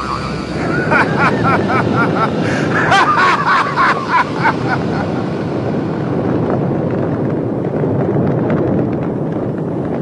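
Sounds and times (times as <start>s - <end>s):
bonfire burning with rushing hiss: 0.0s - 10.0s.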